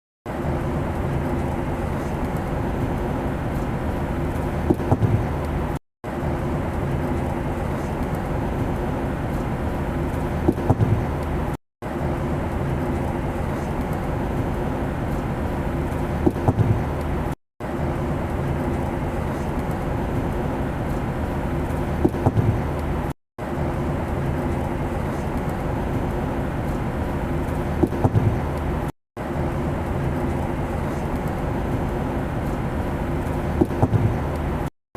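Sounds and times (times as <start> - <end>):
airplane drone: 0.3 - 34.7.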